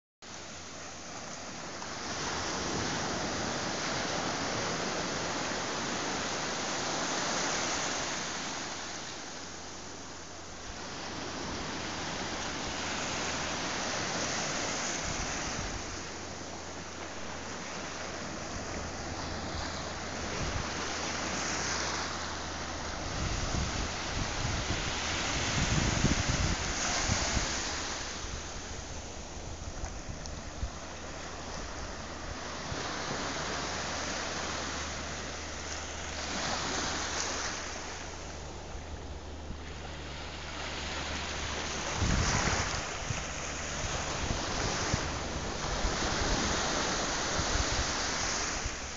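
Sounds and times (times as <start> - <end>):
small waves washing up beach: 0.3 - 48.9.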